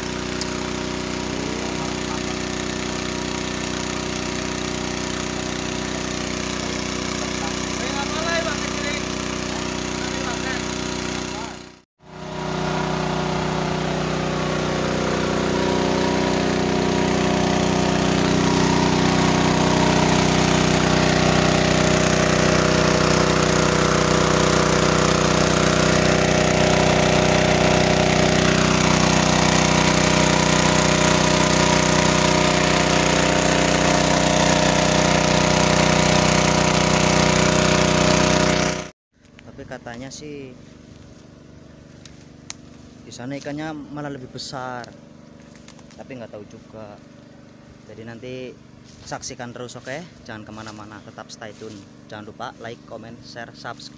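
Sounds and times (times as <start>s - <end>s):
petrol water pump running: 0.0s - 53.9s.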